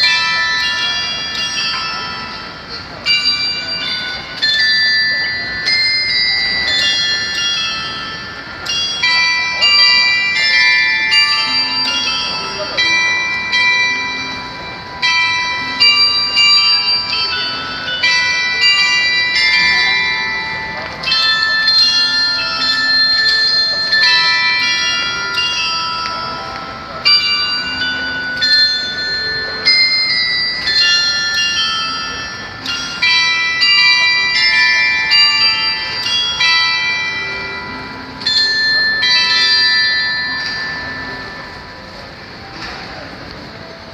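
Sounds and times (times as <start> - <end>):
bells ringing slow melody: 0.0 - 43.9.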